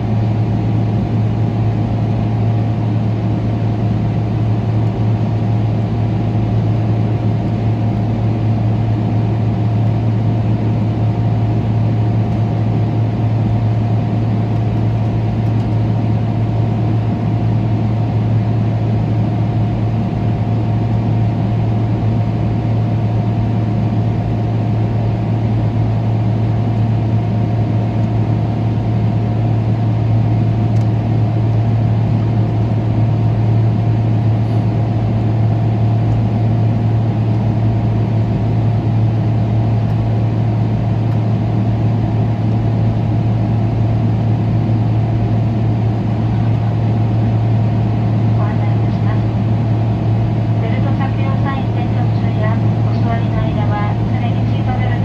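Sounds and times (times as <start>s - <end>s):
aircraft engines droning in cabin: 0.0s - 55.0s.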